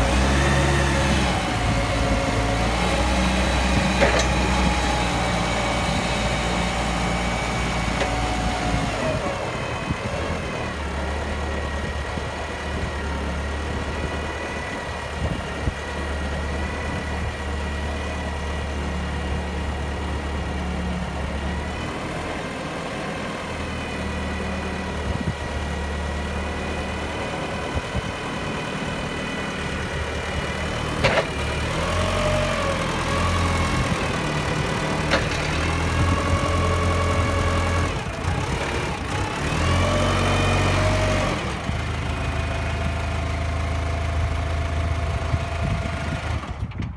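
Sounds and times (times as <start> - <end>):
forklift engine idling and revving: 0.0 - 46.9.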